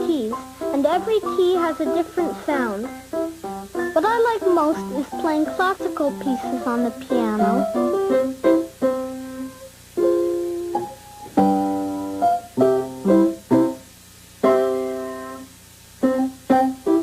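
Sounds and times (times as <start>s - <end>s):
classical piano piece: 0.0s - 17.0s.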